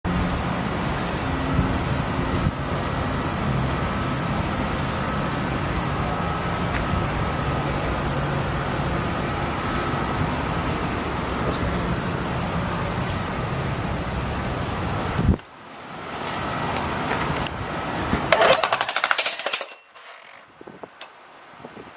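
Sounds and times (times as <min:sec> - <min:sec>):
demolition hammer running: 0:00.1 - 0:15.4, 0:16.0 - 0:20.5.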